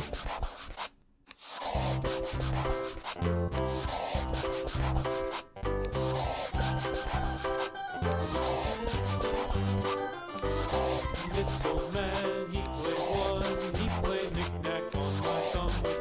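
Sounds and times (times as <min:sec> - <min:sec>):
crayon scribbling on paper: 0:00.0 - 0:16.0.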